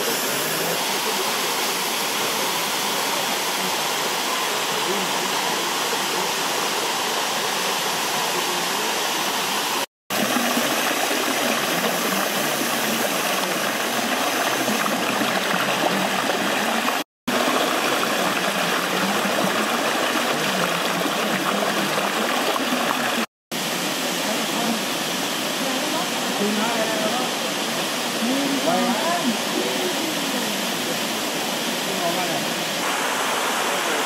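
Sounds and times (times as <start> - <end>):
waterfall rushing over rocks: 0.0 - 34.0.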